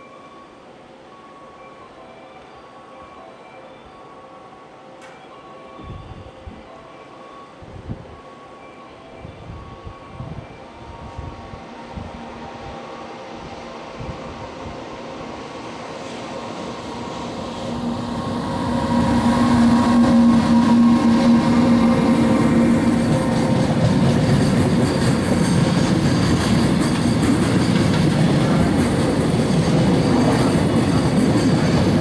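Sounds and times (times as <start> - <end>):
electric locomotive humming: 0.0 - 32.0
train wheels rolling on rails: 5.0 - 32.0.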